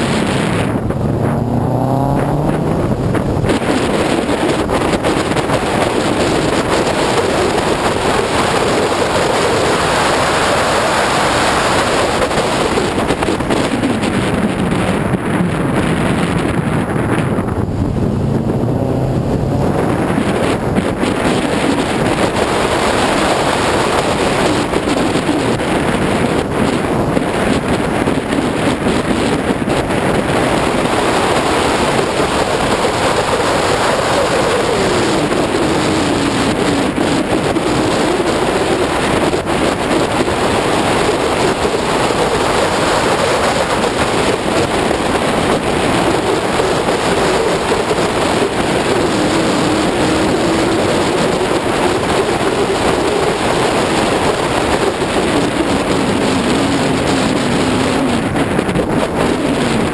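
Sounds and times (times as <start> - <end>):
car engine under load: 0.0 - 59.9
wind noise on microphone: 0.0 - 59.9.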